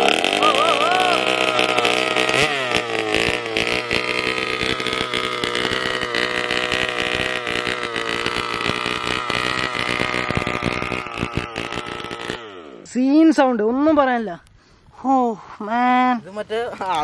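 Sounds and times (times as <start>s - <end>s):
two-stroke engine running: 0.0s - 14.4s.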